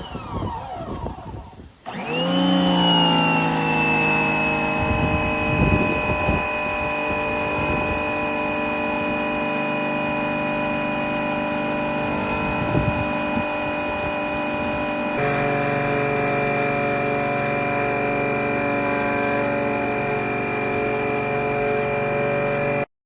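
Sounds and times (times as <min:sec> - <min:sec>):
pressure washer motor humming: 0:00.0 - 0:22.9.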